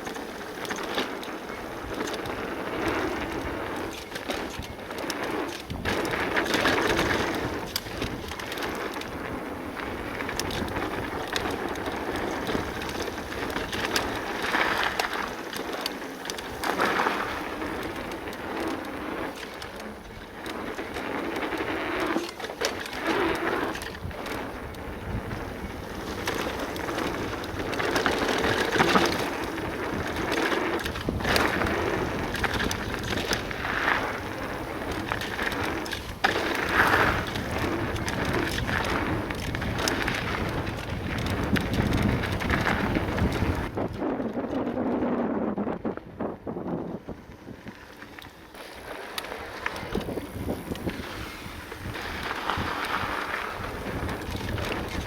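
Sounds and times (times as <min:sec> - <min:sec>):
tyres crunching on dirt: 0:00.0 - 0:44.6, 0:46.6 - 0:55.0
bike clicks and rattles: 0:00.0 - 0:55.0.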